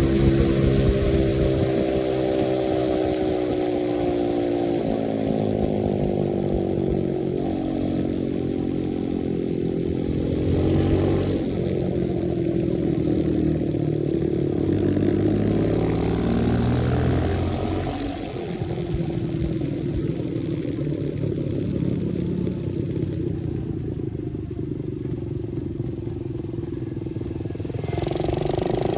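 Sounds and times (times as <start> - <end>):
dirt bike engine revving: 0.0 - 23.3, 26.6 - 28.9.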